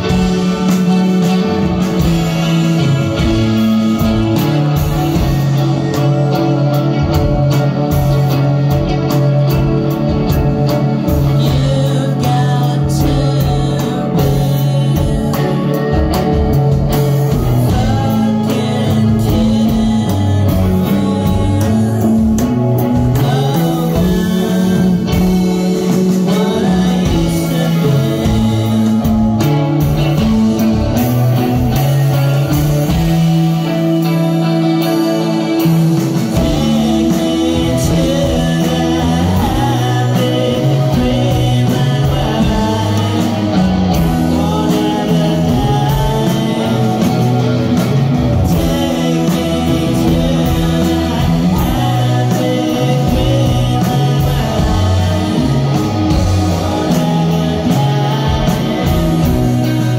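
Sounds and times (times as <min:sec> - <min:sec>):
bass line: 0:00.0 - 0:59.9
guitar: 0:00.0 - 0:59.9
person singing: 0:00.0 - 0:59.9.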